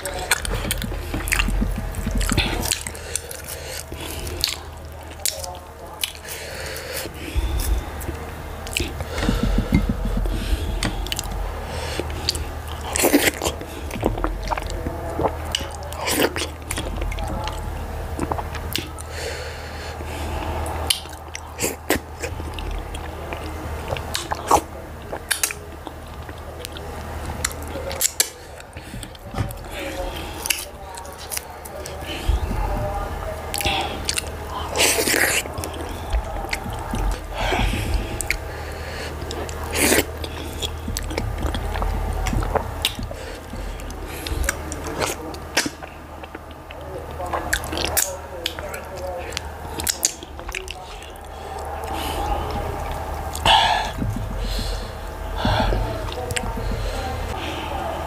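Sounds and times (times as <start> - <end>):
wet chewing mouth sounds: 0.0 - 57.8.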